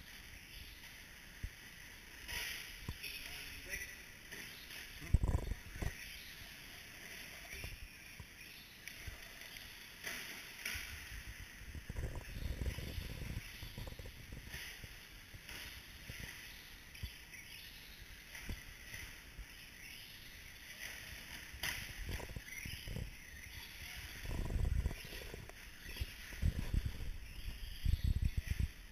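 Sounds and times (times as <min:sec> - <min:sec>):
rc truck motors and tyres: 0:00.0 - 0:28.9.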